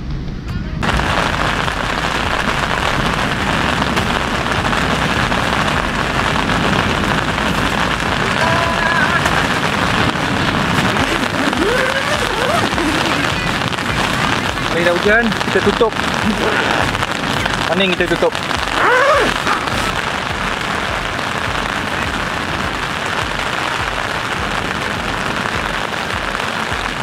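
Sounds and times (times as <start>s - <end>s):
rain on a tent: 0.8s - 27.0s.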